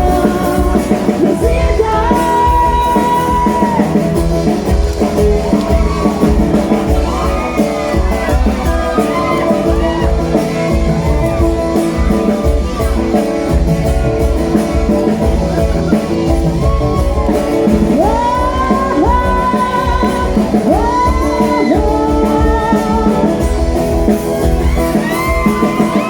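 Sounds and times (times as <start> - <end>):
bass beat: 0.0 - 26.0
held chords: 0.0 - 26.0
sliding lead melody: 0.0 - 26.0.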